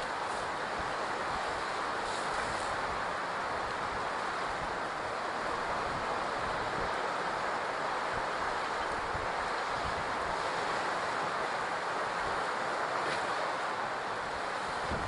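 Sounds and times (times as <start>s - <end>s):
surf washing on beach: 0.0s - 15.0s
wind noise on microphone: 0.0s - 15.0s.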